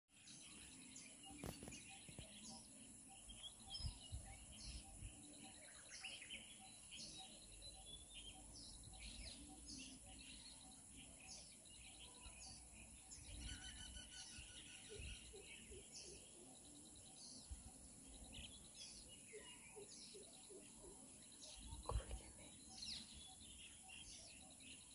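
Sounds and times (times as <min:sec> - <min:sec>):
birds chirping and trilling: 0:00.1 - 0:24.9.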